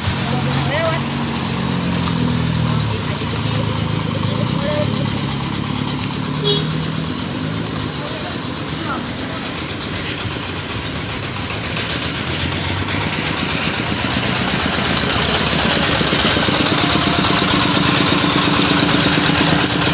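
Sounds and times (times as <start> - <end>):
brick making machine engine: 0.0 - 19.9.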